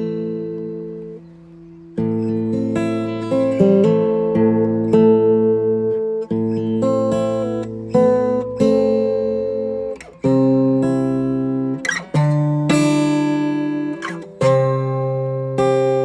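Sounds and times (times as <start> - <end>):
acoustic guitar strummed chords: 0.0 - 16.0.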